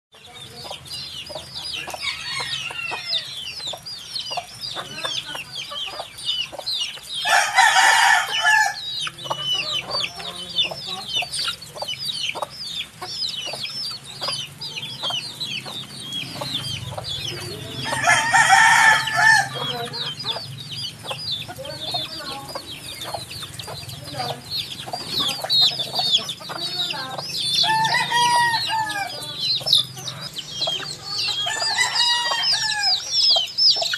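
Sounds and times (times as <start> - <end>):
baby chicks cheeping: 0.1 - 33.9
adult chicken calling: 1.8 - 33.9.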